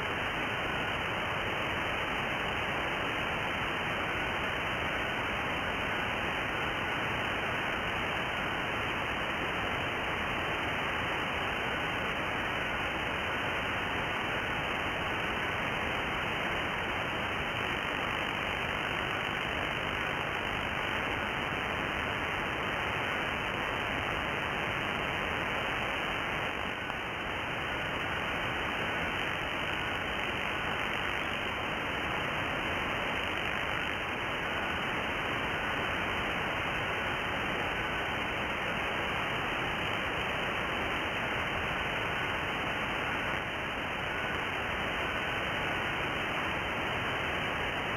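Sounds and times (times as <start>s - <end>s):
faint digital radio signal: 0.0s - 47.9s
radio receiver hiss: 0.0s - 47.9s.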